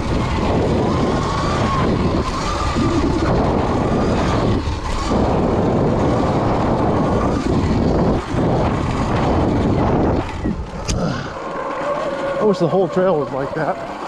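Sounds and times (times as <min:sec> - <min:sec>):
dirt bike motor: 0:00.0 - 0:14.0
wind rush on microphone: 0:00.0 - 0:14.0.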